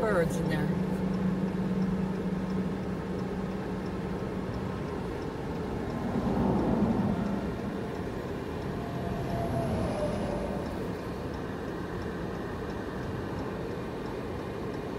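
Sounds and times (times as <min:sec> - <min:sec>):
car engine hum: 0:00.0 - 0:14.9
road noise: 0:00.0 - 0:14.9.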